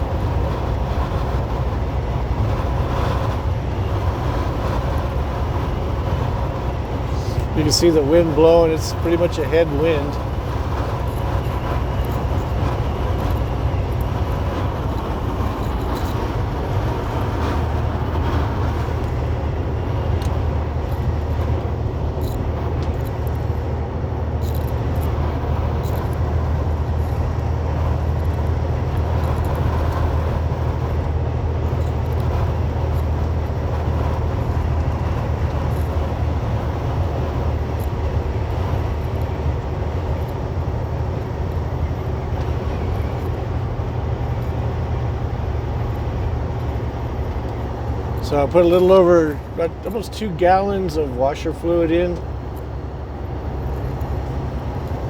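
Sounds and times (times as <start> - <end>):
road and wind noise: 0.0 - 55.0
truck diesel engine droning: 0.0 - 55.0.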